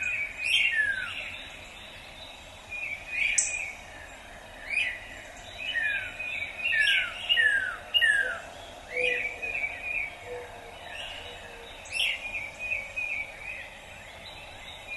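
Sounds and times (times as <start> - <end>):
songbirds chirping and singing: 0.0 - 14.9.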